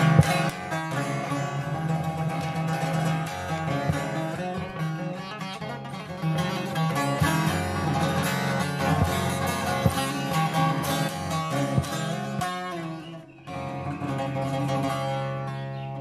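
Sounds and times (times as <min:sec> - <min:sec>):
long-necked lute strummed fast: 0:00.0 - 0:16.0.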